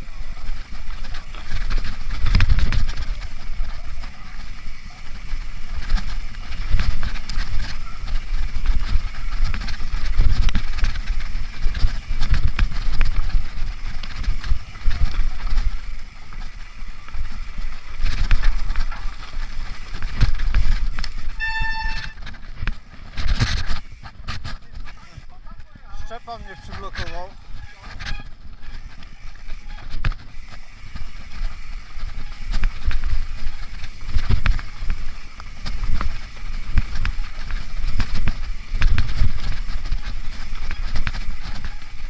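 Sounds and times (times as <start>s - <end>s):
bike rattling over bumps: 0.0s - 42.0s
tyres on dirt and leaves: 0.0s - 42.0s.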